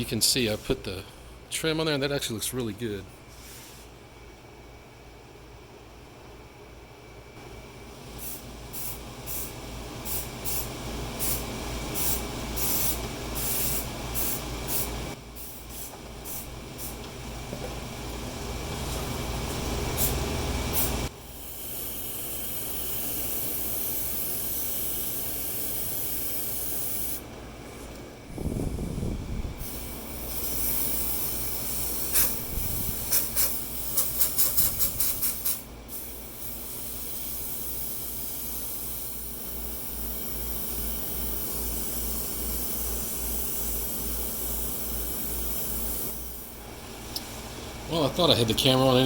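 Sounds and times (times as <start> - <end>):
air conditioners hissing: 0.0 - 49.0.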